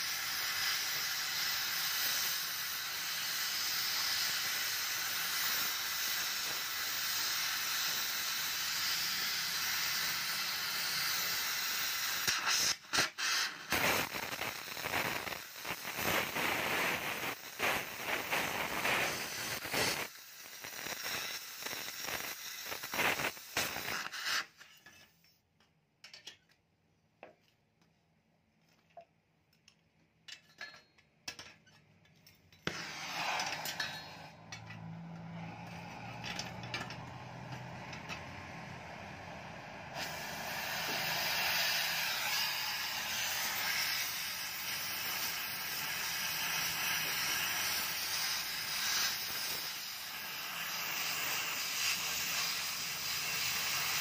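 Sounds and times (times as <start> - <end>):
cutting torch hissing: 0.0 - 24.8, 32.6 - 54.0.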